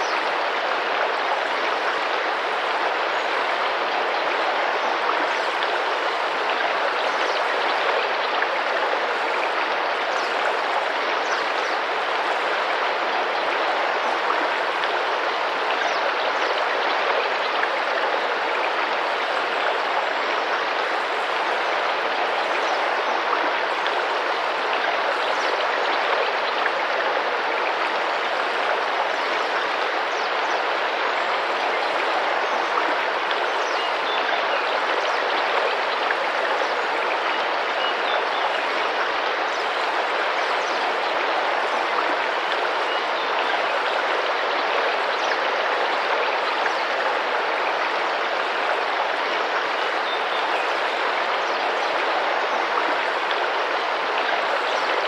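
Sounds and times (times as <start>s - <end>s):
river water rushing and splashing: 0.0s - 55.0s.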